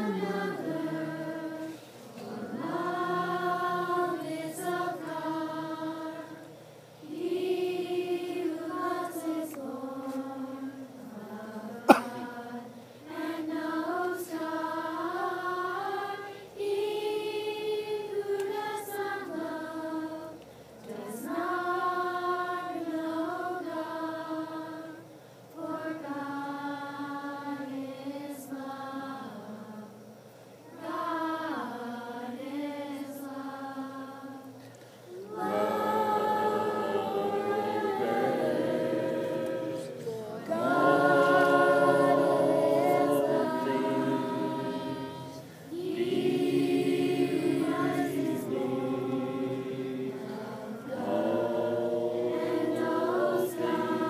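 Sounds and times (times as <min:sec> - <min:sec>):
group singing worship song: 0:00.0 - 0:54.0.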